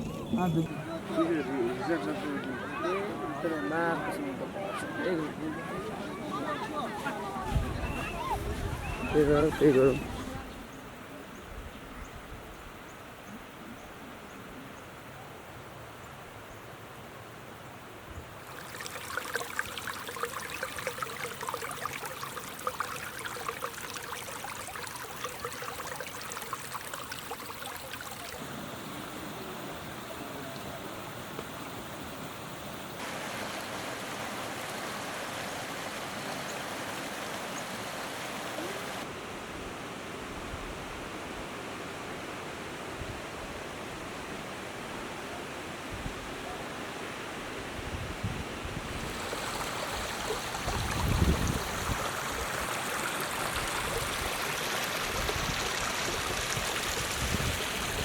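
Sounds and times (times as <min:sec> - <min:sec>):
stream water rushing and splashing: 0:00.0 - 0:11.1, 0:18.3 - 0:47.8, 0:48.5 - 0:58.0.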